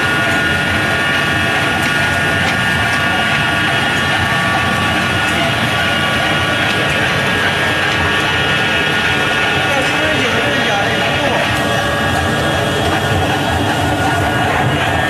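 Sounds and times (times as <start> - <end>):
high-pitched machine tones: 0.0 - 15.0
pellet mill running: 0.0 - 15.0.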